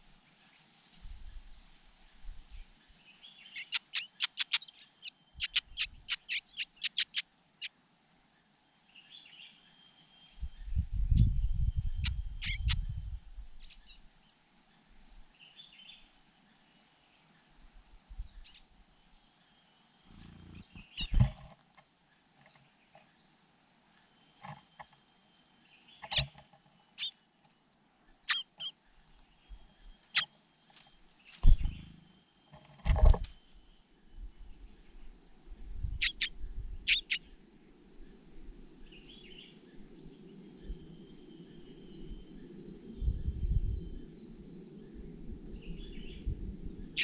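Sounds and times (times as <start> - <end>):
distant birdsong: 1.0 - 35.2, 35.9 - 47.0.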